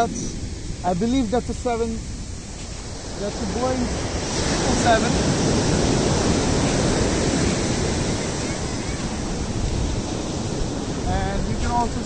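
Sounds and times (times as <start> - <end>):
heavy surf breaking: 0.0 - 12.0
wind buffeting microphone: 0.0 - 12.0.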